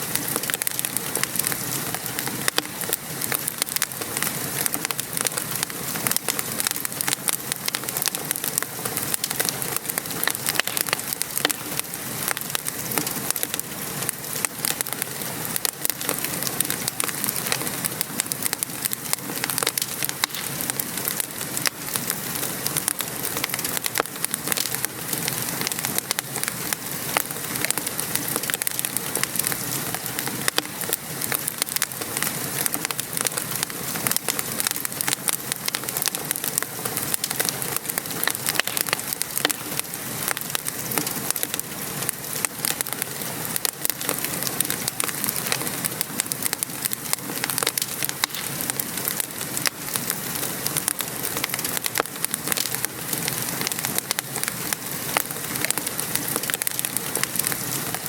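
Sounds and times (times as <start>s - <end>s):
rain pattering: 0.0s - 58.0s
wood fire crackling: 0.0s - 58.0s.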